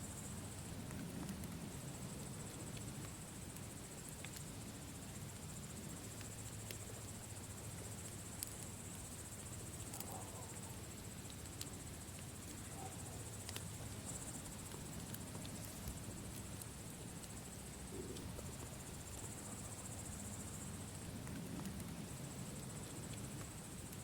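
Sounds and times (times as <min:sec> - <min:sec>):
crickets trilling: 0:00.0 - 0:24.0
campfire crackling: 0:00.1 - 0:24.0.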